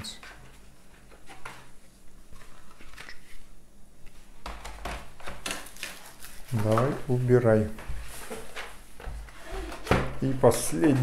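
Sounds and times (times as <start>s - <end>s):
cards and cardboard pieces rustling: 0.2s - 11.0s.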